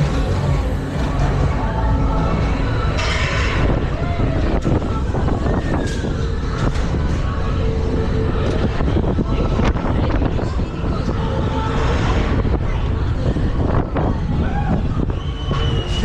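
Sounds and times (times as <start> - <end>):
fairground ride rumbling: 0.0 - 16.0
wind buffeting microphone: 0.0 - 16.0.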